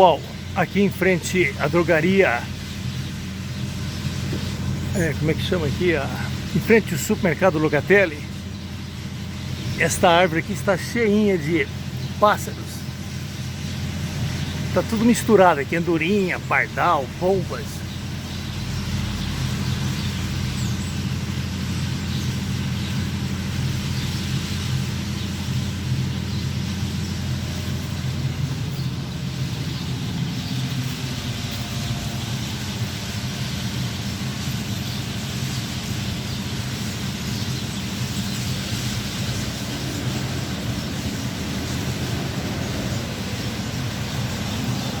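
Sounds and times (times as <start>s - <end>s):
flock of birds chattering: 0.0s - 45.0s
street traffic hum: 0.0s - 45.0s
vehicle engine idling: 0.0s - 45.0s.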